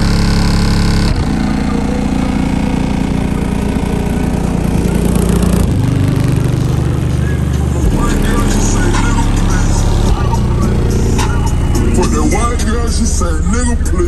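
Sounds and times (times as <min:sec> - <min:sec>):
muffled deep bass music: 0:00.0 - 0:14.0.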